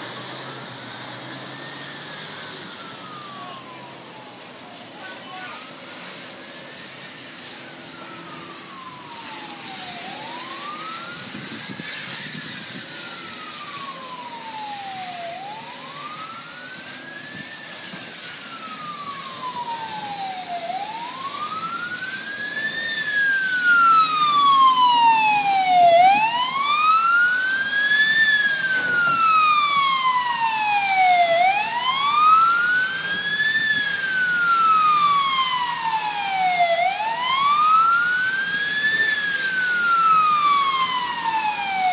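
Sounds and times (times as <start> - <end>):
emergency siren wailing: 0.0 - 41.9.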